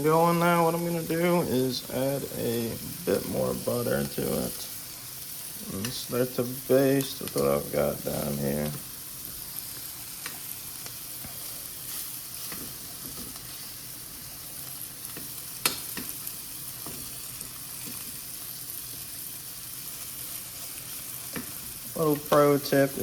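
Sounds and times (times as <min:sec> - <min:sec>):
steak sizzling in a frying pan: 0:00.0 - 0:23.0.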